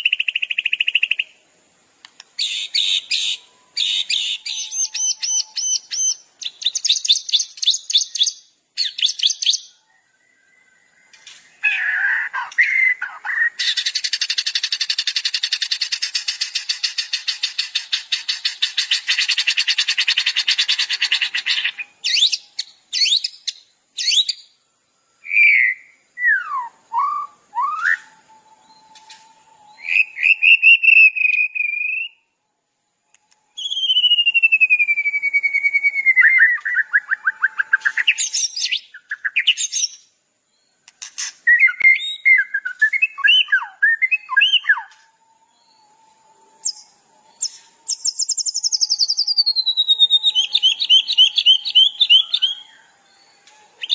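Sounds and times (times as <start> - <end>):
songbird song with trills and whistles: 0.0 - 53.9.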